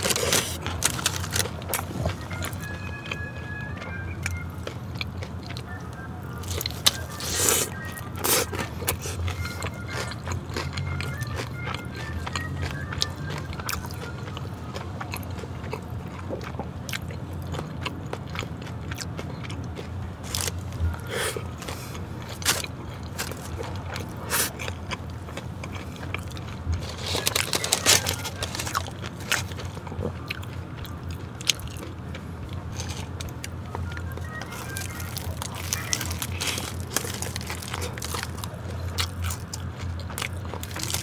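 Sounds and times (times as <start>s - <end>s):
crunchy chewing: 0.0s - 41.0s
steady low hum: 0.0s - 41.0s.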